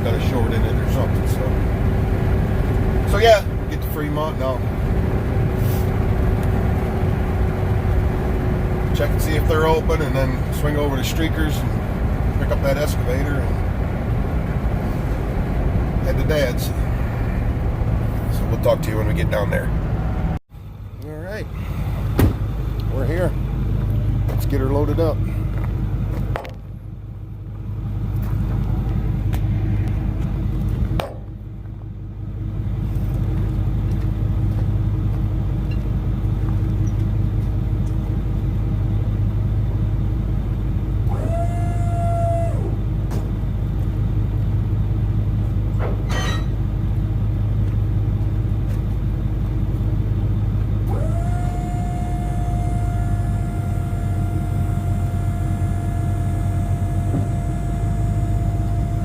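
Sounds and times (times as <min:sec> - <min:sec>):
engine low rumble: 0:00.0 - 0:59.0
steady whine: 0:00.0 - 0:59.0.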